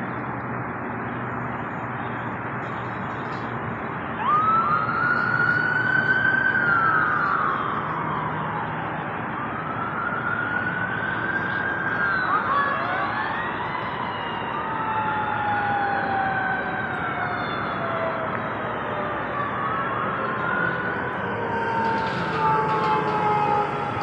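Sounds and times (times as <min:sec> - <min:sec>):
second siren wailing: 0:04.2 - 0:24.0
siren wailing: 0:04.2 - 0:24.0.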